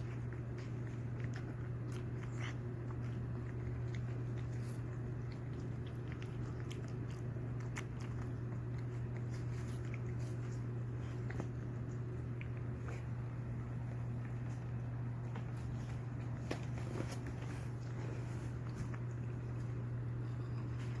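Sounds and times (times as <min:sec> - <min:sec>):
dog chewing crunches: 0:00.0 - 0:21.0
steady low hum: 0:00.0 - 0:21.0.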